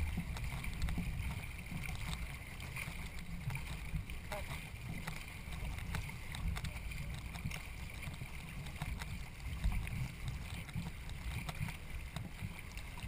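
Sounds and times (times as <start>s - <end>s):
canoe moving through water: 0.0s - 13.0s
wind on microphone: 0.0s - 13.0s.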